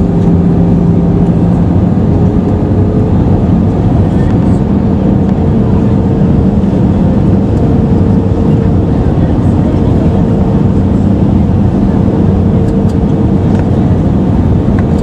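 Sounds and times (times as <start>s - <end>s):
aircraft engines and airflow roar: 0.0s - 15.0s.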